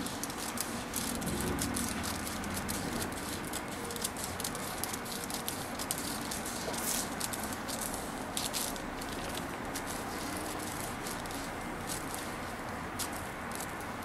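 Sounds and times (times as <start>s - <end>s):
scissors cutting paper: 0.0s - 13.9s.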